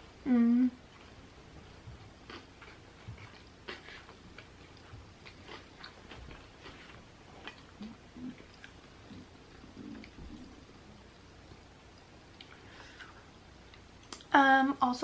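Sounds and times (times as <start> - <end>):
chewing with small crunches: 0.9 - 14.3.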